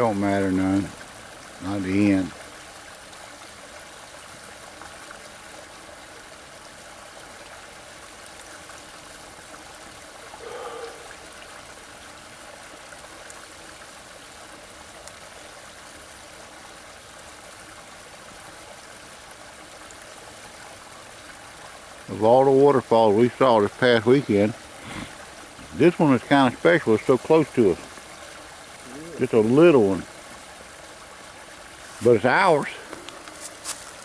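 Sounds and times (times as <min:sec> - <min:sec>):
small waterfall running: 0:00.0 - 0:34.0.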